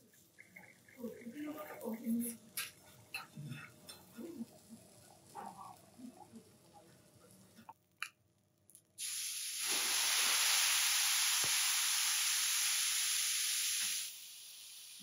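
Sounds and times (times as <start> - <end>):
wine sizzling on hot griddle: 0.8 - 7.6, 9.0 - 15.0.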